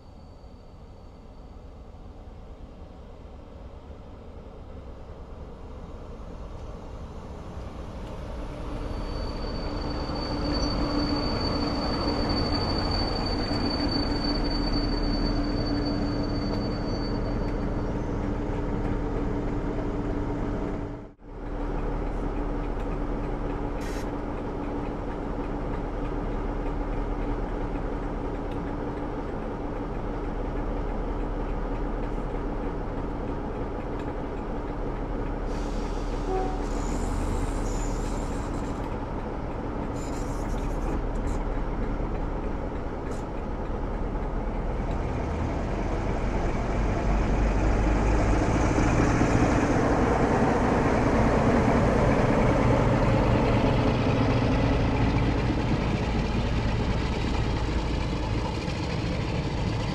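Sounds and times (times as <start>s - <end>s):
diesel locomotive engine hum: 0.0s - 59.9s
wheel and rail noise: 4.5s - 59.9s.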